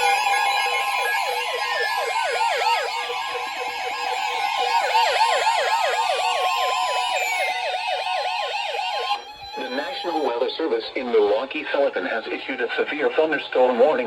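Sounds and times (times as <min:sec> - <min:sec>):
warbling alarm siren: 0:00.0 - 0:11.4
steady alarm tone: 0:00.0 - 0:14.0.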